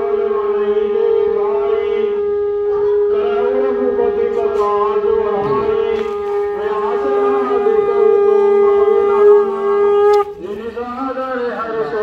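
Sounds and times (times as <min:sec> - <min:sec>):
conch shell blown in long note: 0:00.0 - 0:12.0.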